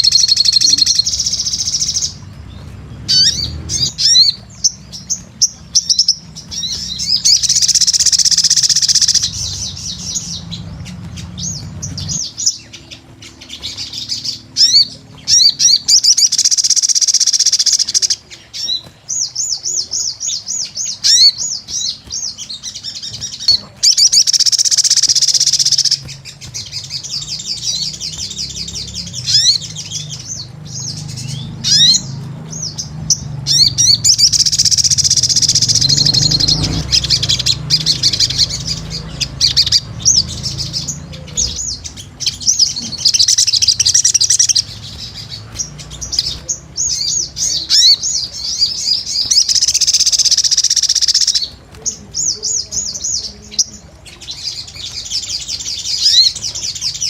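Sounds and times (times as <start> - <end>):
bird twittering and trilling: 0.0 - 57.0.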